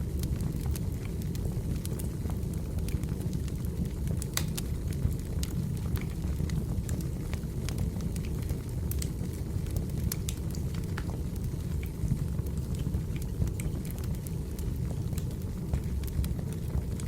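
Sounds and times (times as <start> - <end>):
fire crackling and popping: 0.0 - 17.0
firewood burning rumble: 0.0 - 17.0.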